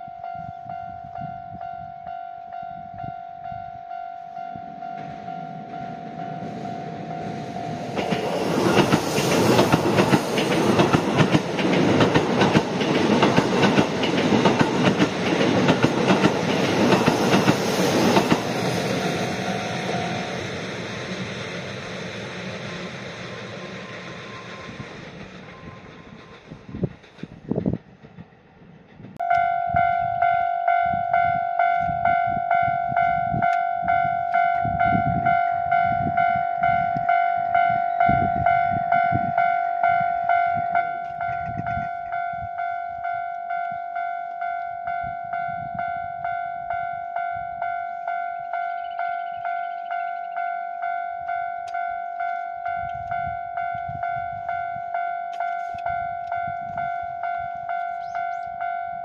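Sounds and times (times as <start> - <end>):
level-crossing warning bell ringing: 0.0 - 26.3, 29.2 - 59.0.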